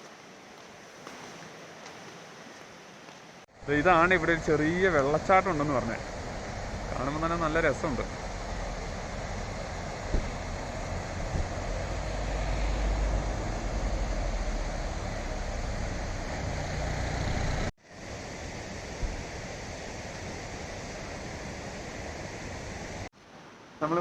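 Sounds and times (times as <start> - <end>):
waterfall rushing: 3.6 - 23.1
wind buffeting microphone: 3.8 - 23.1.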